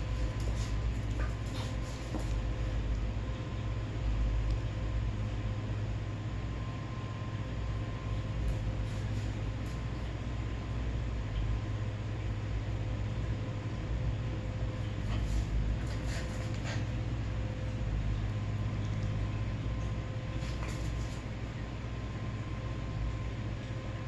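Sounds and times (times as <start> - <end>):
faint high whine: 0.0 - 24.0
low machine hum: 0.0 - 24.0.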